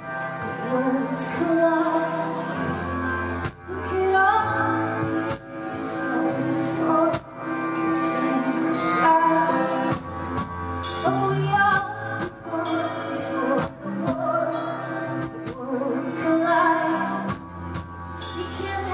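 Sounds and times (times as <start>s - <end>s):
live pop band music: 0.0s - 18.9s.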